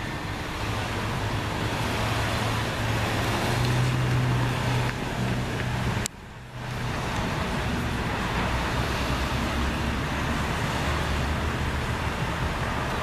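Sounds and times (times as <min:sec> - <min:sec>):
road traffic noise: 0:00.0 - 0:13.0
vehicle passing: 0:00.0 - 0:13.0.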